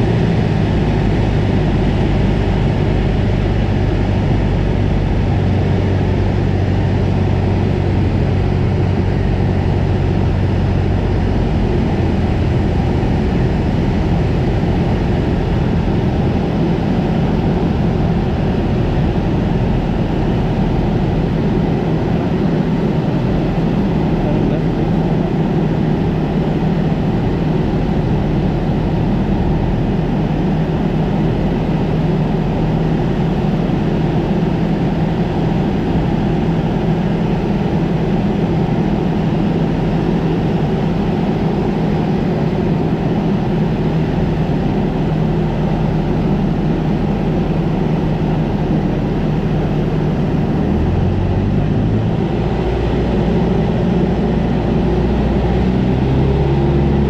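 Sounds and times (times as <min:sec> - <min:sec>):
light airplane engine and propeller drone: 0:00.0 - 0:57.0.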